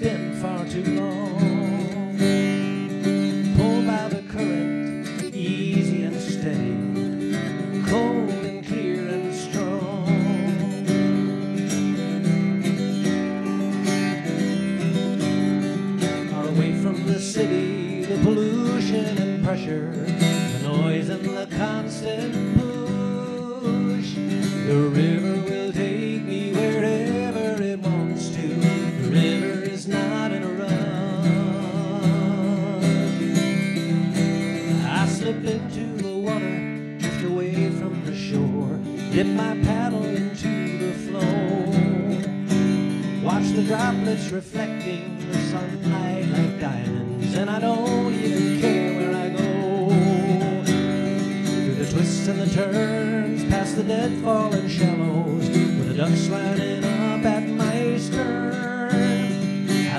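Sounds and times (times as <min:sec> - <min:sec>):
acoustic guitar strummed: 0:00.0 - 0:59.9.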